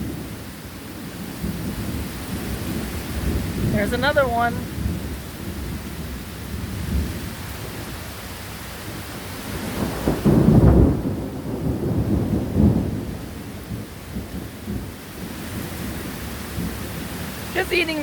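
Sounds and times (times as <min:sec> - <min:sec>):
heavy rain hiss: 0:00.0 - 0:18.0
thunder rumbling: 0:00.0 - 0:18.0.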